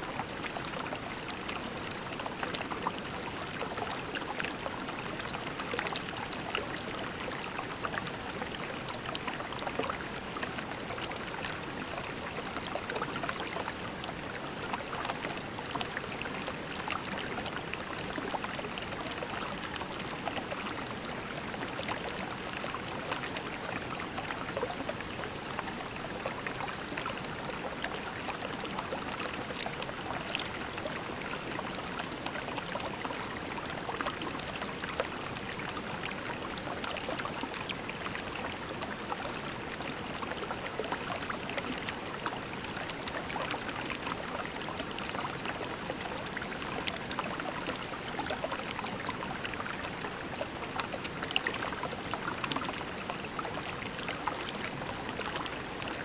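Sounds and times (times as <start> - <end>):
creek babbling over pebbles: 0.0 - 56.0.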